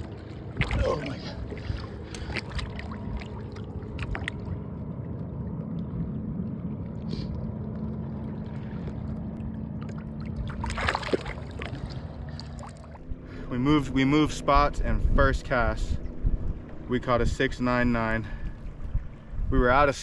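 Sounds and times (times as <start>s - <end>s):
boat engine rumble: 0.0s - 20.0s
faint steady hum: 0.0s - 20.0s.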